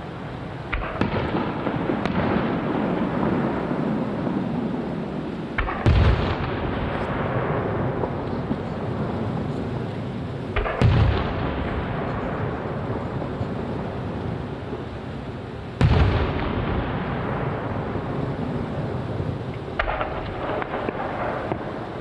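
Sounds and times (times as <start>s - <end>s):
firework shells booming: 0.0s - 22.0s
crackling firework pops: 0.6s - 22.0s.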